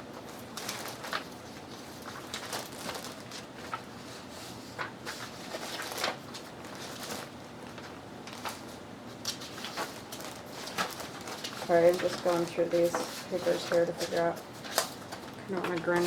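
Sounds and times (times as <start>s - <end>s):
paper rustling and tapping: 0.0s - 4.0s, 4.7s - 16.0s.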